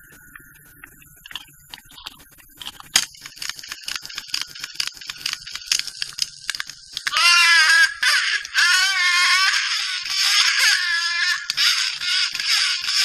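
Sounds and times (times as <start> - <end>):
faint steady hum: 0.0 - 13.0
toy record player clicking: 1.2 - 13.0.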